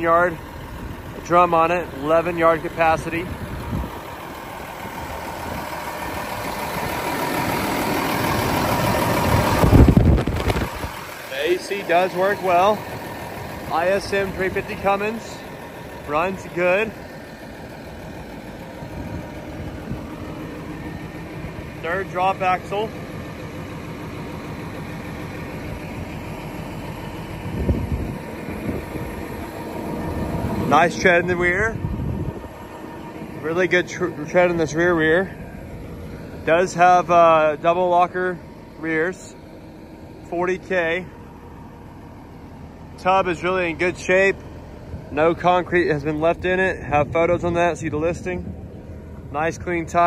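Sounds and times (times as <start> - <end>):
diesel engine idling: 0.0 - 50.0
low engine rumble: 0.0 - 50.0.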